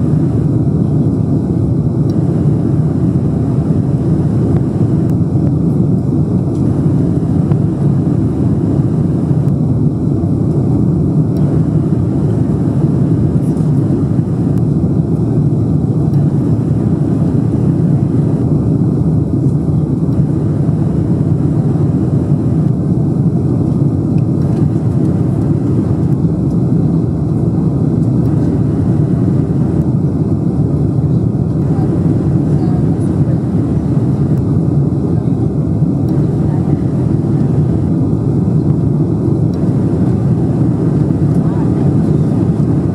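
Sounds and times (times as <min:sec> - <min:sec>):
jet engines during takeoff: 0:00.0 - 0:42.9.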